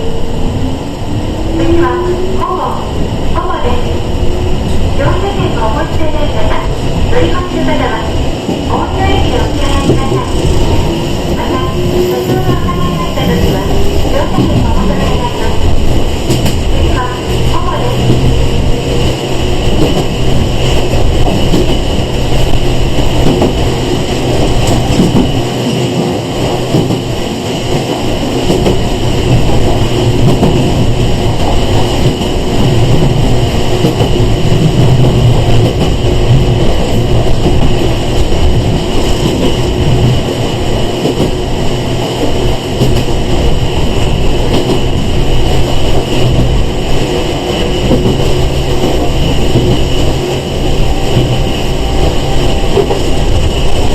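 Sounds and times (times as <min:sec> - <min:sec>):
wheels rumbling on rails: 0:00.0 - 0:53.9.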